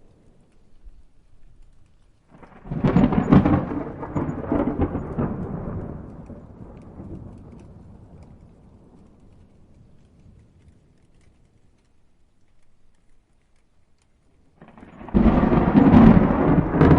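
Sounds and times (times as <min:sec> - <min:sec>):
thunder crackling and rolling: 0:00.0 - 0:13.5, 0:14.5 - 0:16.9.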